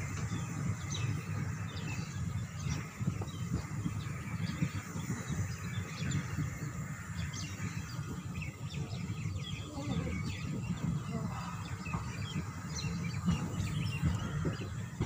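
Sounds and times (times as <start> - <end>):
birds chirping: 0.0 - 15.0
train rumbling: 0.0 - 15.0.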